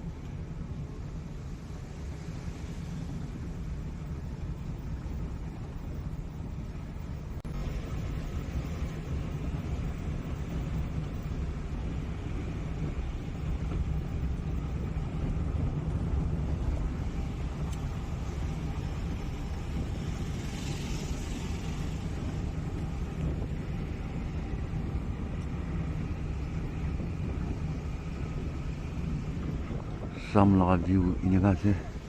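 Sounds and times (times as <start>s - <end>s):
vehicle driving on highway: 0.0s - 32.0s.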